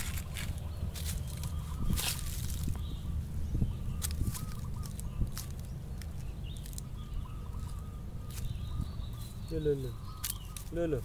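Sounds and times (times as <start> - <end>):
dry leaves crackling: 0.0 - 3.0, 4.0 - 8.6, 9.2 - 11.0
steady low rumble: 0.0 - 10.8
faint bird calls: 0.0 - 11.0.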